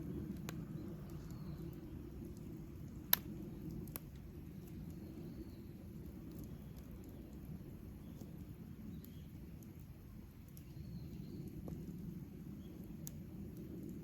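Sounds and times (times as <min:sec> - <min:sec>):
campfire popping: 0:00.0 - 0:14.0
low steady rumble: 0:00.0 - 0:14.0.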